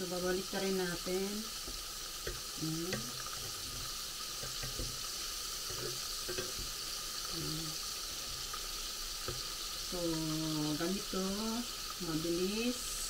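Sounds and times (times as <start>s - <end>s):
prawns sizzling in hot oil: 0.0s - 13.0s.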